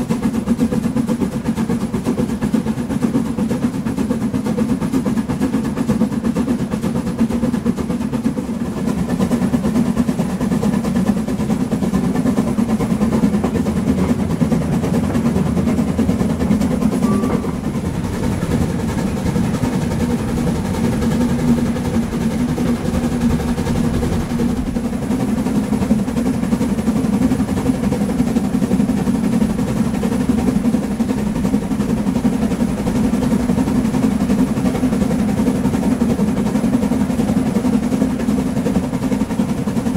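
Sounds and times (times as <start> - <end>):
steam locomotive running: 0.0 - 39.9.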